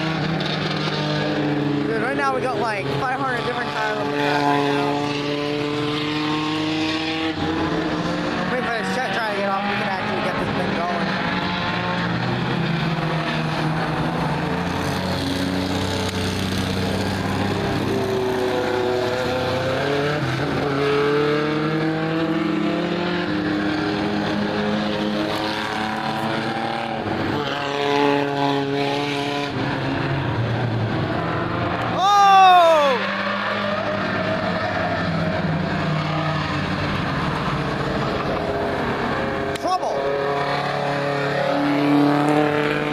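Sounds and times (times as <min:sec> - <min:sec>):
race cars passing: 0:00.0 - 0:42.9
steady engine roar: 0:00.0 - 0:42.9.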